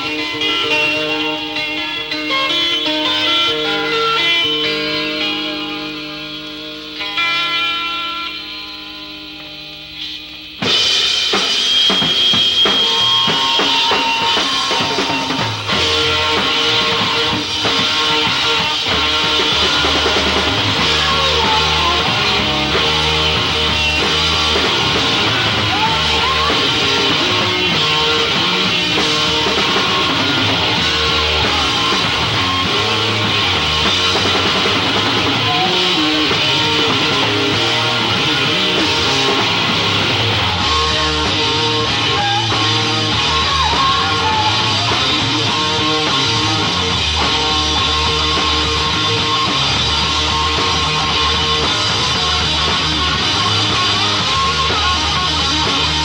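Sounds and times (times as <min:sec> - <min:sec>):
bass guitar: 0:00.0 - 0:56.0
drum kit with cymbals: 0:00.0 - 0:56.0
electric guitar: 0:00.0 - 0:56.0.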